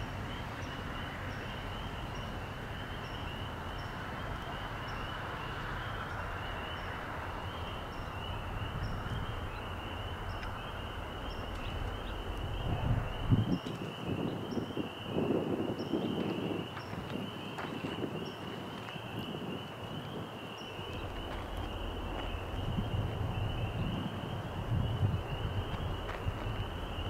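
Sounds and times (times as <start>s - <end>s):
steady low rumble: 0.0s - 27.0s
wind buffeting microphone: 0.0s - 27.0s
high-pitched chirping chorus: 0.3s - 27.0s.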